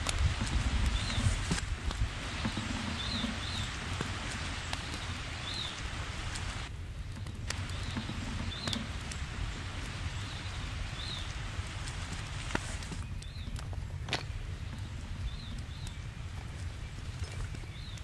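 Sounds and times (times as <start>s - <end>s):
wind on microphone: 0.0s - 18.0s
bird chirping: 0.4s - 18.0s.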